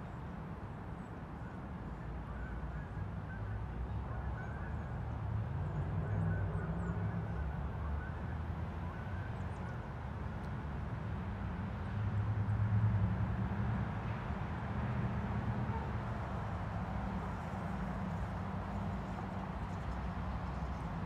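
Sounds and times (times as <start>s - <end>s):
low rumble of city traffic: 0.0s - 21.0s.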